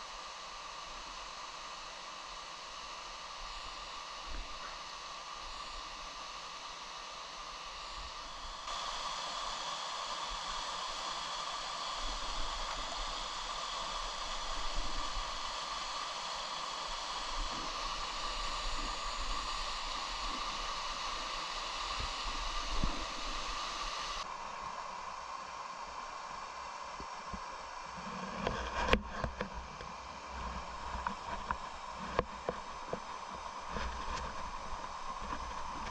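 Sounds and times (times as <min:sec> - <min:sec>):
stream and waterfall rushing: 0:00.0 - 0:35.9.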